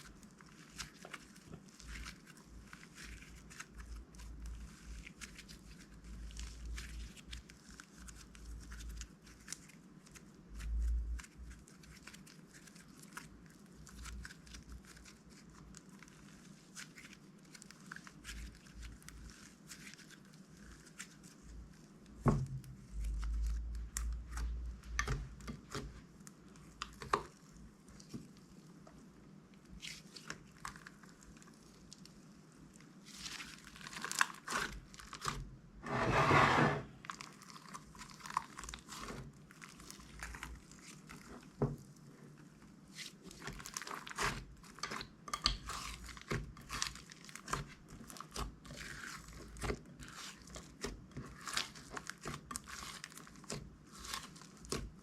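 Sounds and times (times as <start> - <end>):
slime crinkling and crackling: 0.0 - 35.8, 36.9 - 55.0.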